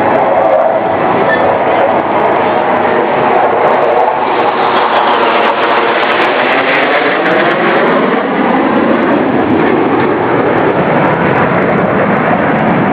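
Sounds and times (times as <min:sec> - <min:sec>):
aircraft engine roar: 0:00.0 - 0:12.9.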